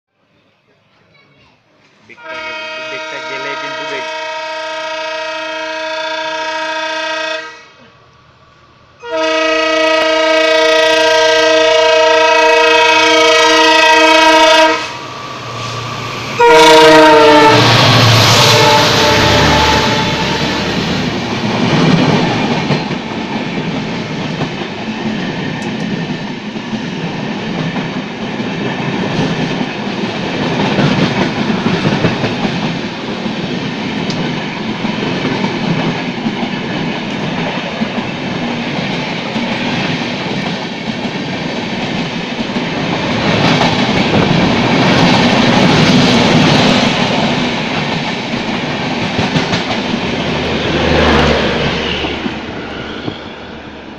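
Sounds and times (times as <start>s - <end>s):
train coaches rushing past: 1.8s - 53.9s.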